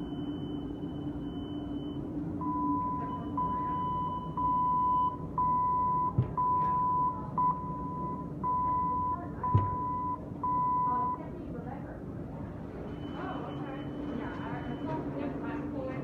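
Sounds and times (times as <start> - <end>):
oven alarm beeping: 0.0 - 11.3, 12.8 - 15.7
low steady hum: 0.0 - 16.0.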